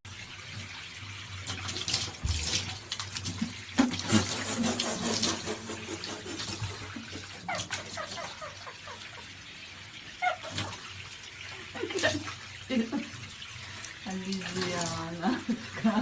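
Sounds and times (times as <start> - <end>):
running water splashing: 0.1 - 16.0.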